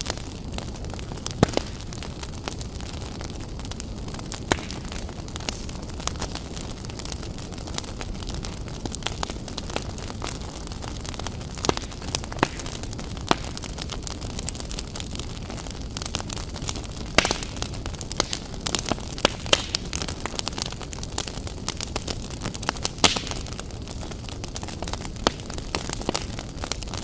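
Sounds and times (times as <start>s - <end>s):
fire popping and snapping: 0.0s - 27.0s
wood fire crackling: 0.0s - 27.0s.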